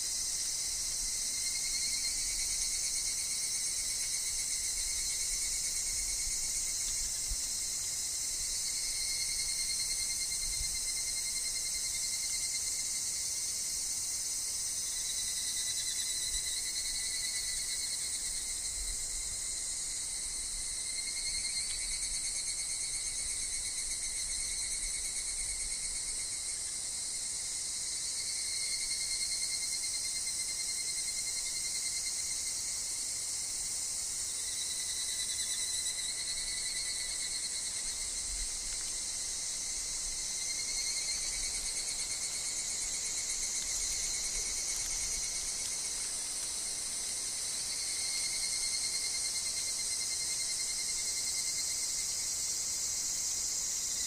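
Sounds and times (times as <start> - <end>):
cicadas and insects chorus: 0.0 - 54.0.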